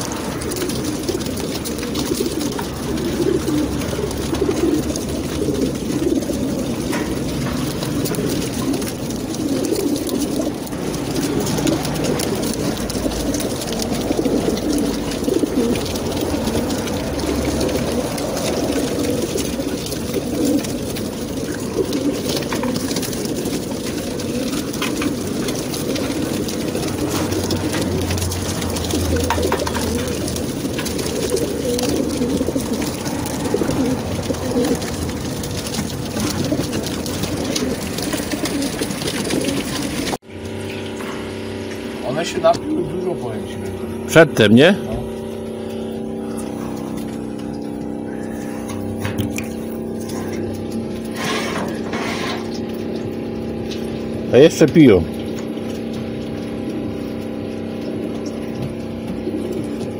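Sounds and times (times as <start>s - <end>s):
pigeons cooing: 0.0s - 59.9s.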